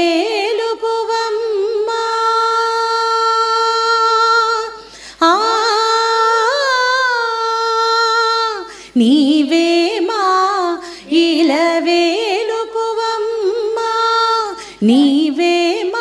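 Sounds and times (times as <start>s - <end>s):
women singing devotional song: 0.0s - 16.0s.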